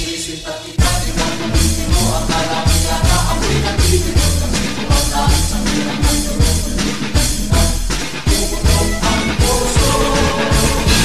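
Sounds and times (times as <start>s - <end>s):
loud dance music: 0.0s - 11.0s
heavy kick drum beat: 0.8s - 11.0s.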